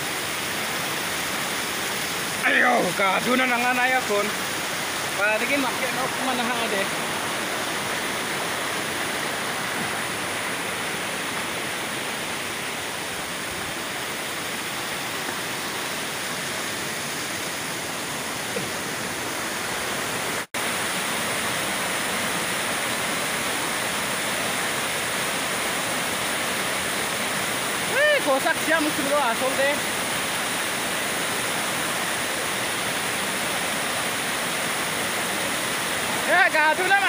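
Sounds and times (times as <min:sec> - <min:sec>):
waterfall rushing over rocks: 0:00.0 - 0:37.0.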